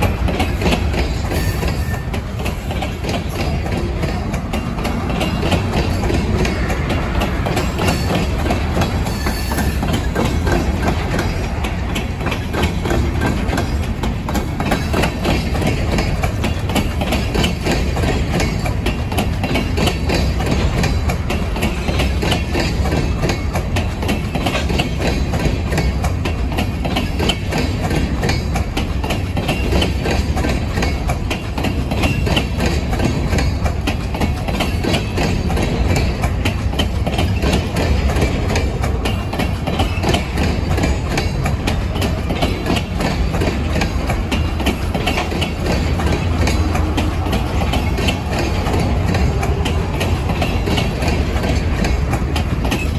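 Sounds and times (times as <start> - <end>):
freight train wheels rumbling: 0.0 - 52.9
wheels clicking over rail joints: 0.0 - 52.9.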